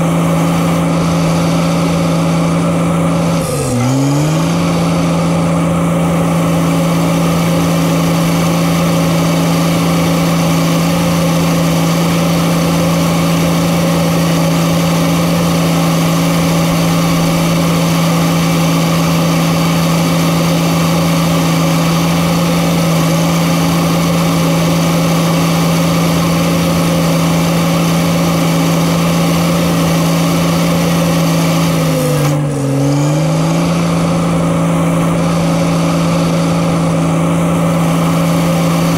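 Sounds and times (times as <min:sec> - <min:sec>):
diesel engine running at high revs: 0:00.0 - 0:38.9.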